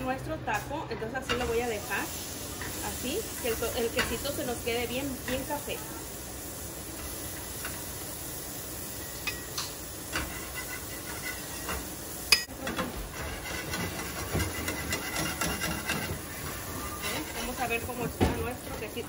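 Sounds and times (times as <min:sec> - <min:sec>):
cheese sizzling in a pan: 0:01.3 - 0:19.0.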